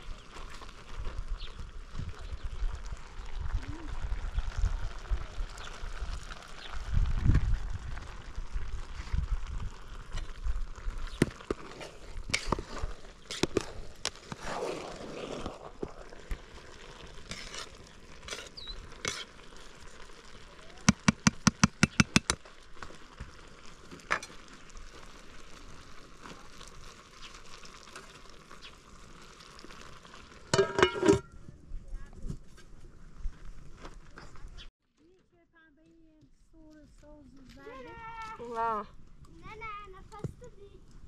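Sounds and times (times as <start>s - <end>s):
kebabs sizzling on a barbecue: 0.0s - 34.7s
crackles: 0.0s - 41.0s.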